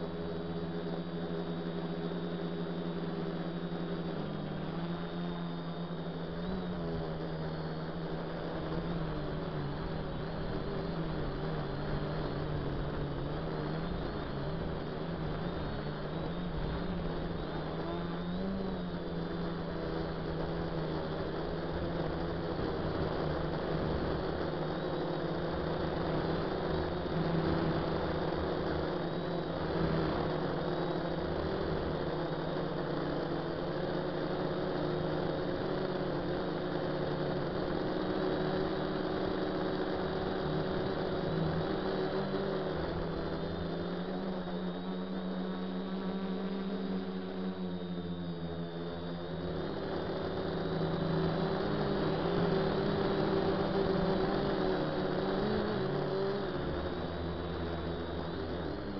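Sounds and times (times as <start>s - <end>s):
quadcopter motors whirring: 0.0s - 58.9s.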